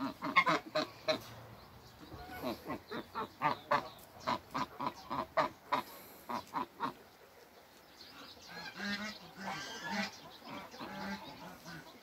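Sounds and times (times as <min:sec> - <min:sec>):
geese honking: 0:00.0 - 0:01.3, 0:02.1 - 0:07.0, 0:08.2 - 0:12.0.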